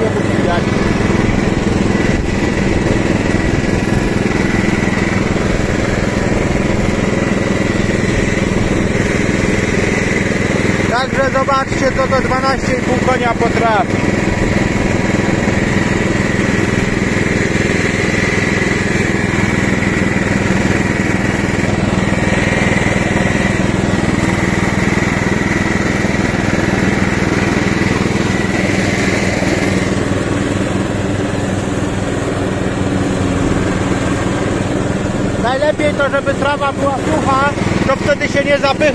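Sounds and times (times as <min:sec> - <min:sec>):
lawn tractor engine running: 0:00.0 - 0:38.9
mower blades cutting grass: 0:00.0 - 0:38.9.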